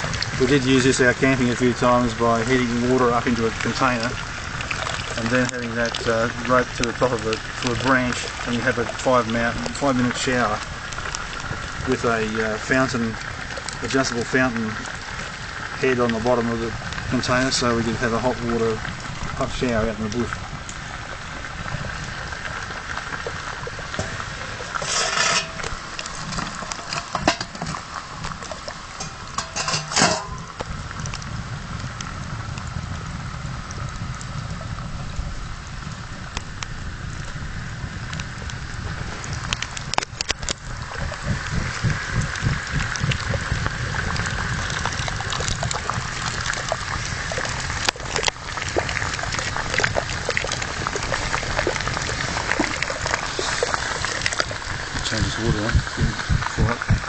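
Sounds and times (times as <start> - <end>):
water bubbling and ticking: 0.0 - 57.0.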